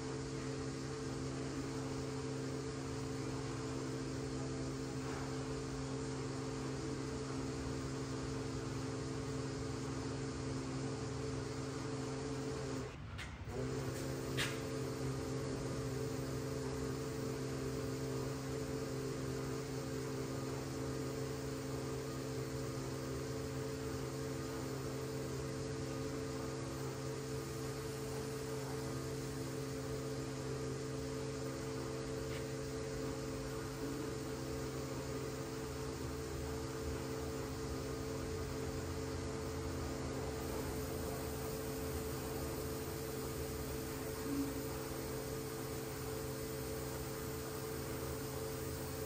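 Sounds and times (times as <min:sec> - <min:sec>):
machine hum with low tones: 0:00.0 - 0:49.0.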